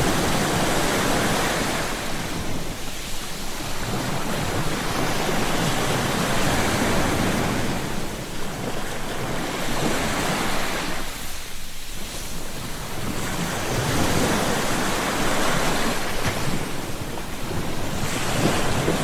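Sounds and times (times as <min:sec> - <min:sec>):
ocean waves breaking: 0:00.0 - 0:19.0
wind buffeting microphone: 0:00.0 - 0:19.0.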